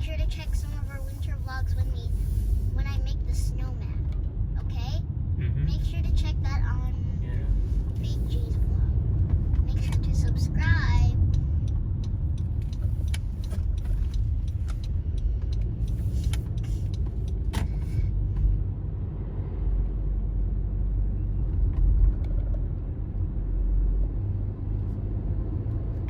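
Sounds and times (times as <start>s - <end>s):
car driving low rumble: 0.0s - 26.0s.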